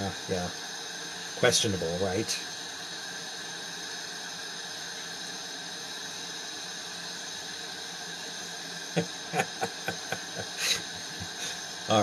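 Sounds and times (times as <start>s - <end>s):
glassworking torch hissing: 0.0s - 12.0s.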